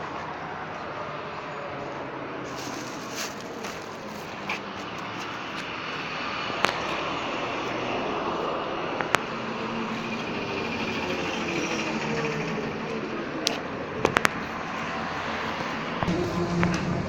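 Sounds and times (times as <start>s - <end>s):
passing motor vehicles: 0.0s - 17.0s.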